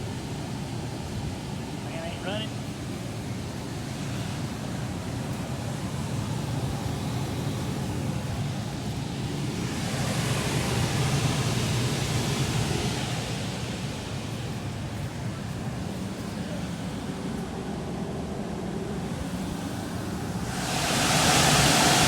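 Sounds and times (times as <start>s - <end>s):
air conditioning unit hum: 0.0s - 22.0s
fan air rushing: 0.0s - 22.0s.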